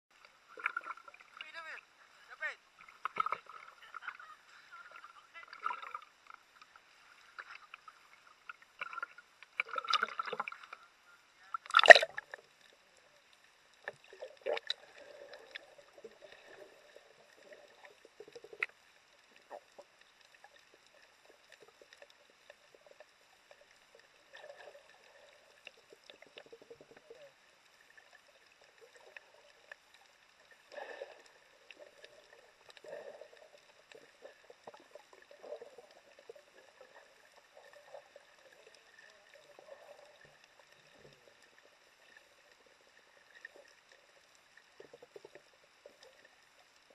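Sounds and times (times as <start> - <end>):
muffled underwater splashing: 0.3 - 46.9.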